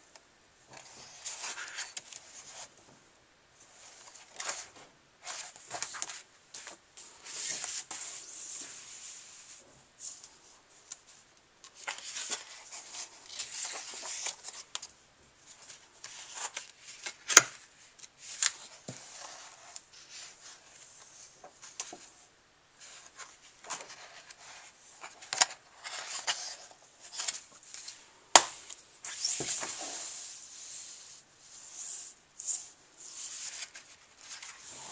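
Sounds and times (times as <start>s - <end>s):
paper pages rustling: 0.7s - 2.7s, 3.8s - 9.5s, 10.1s - 14.9s, 15.5s - 22.1s, 22.8s - 30.3s, 32.5s - 34.9s.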